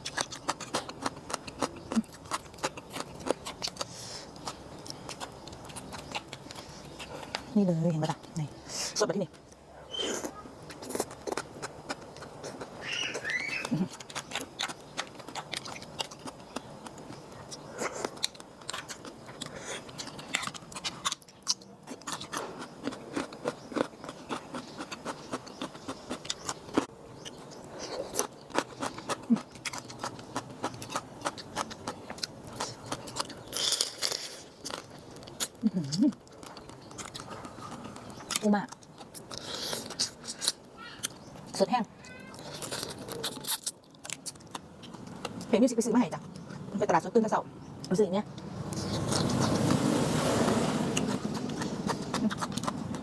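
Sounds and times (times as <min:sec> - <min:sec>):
person chewing and crunching: 0:00.0 - 0:08.4, 0:10.2 - 0:45.5, 0:47.8 - 0:53.0.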